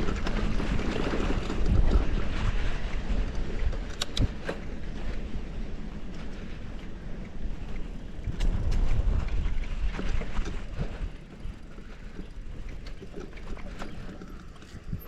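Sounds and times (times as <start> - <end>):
bike clicking and rattling: 0.0 - 15.0
bike tyres rumbling on dirt: 0.0 - 15.0.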